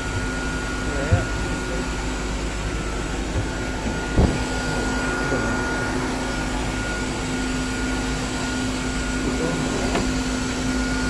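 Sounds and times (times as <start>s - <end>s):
machinery hum with high whine: 0.0s - 11.0s.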